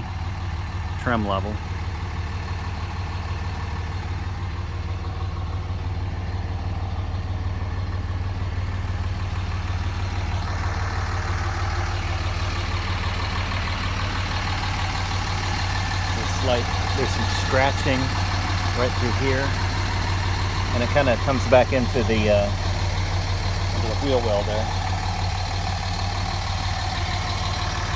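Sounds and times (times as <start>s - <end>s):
diesel engine idling: 0.0s - 27.9s.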